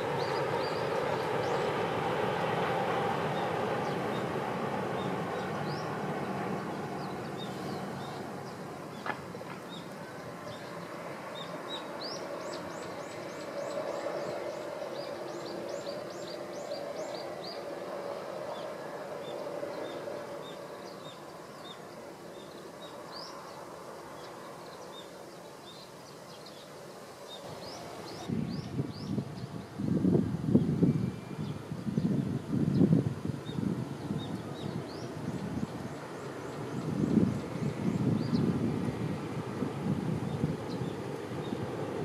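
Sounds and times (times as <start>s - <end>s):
small birds chirping: 0.0s - 30.0s, 30.6s - 41.9s
distant train rumble: 0.0s - 42.0s.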